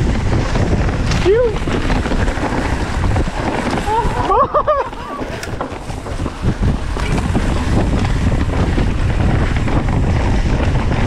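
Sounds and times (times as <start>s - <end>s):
bike tyres rumbling on dirt: 0.0s - 11.0s
wind buffeting microphone: 0.0s - 11.0s.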